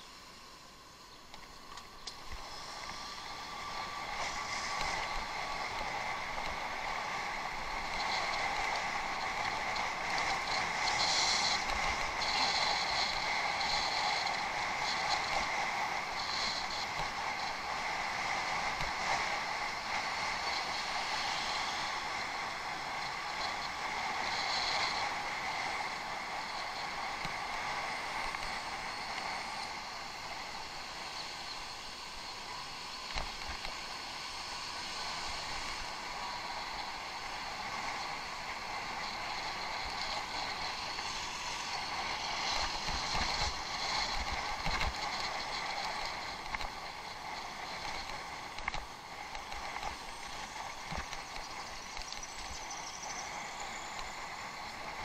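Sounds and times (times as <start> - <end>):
bicycle tyres on dirt: 1.1 - 55.0
wind on microphone: 2.2 - 55.0.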